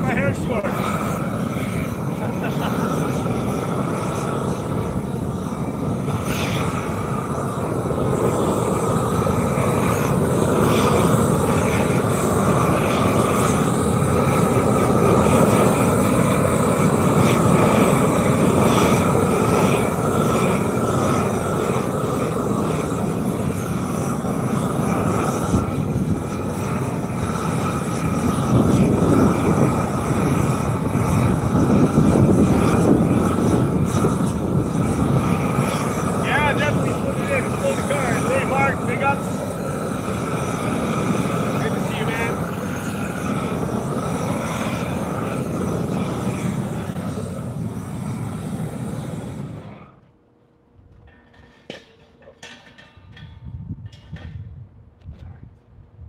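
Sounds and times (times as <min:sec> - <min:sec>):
asphalt shaving machine noise: 0:00.0 - 0:50.2.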